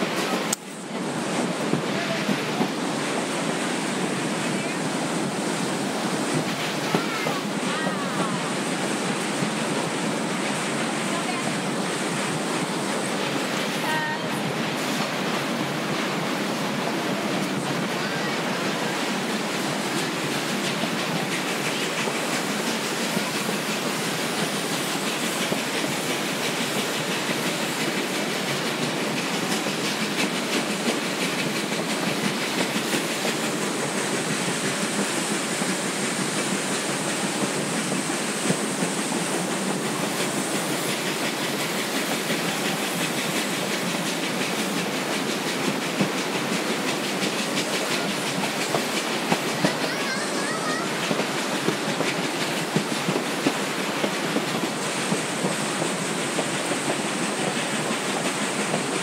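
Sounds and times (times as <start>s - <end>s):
train wheels rattling on rails: 0.0s - 59.0s.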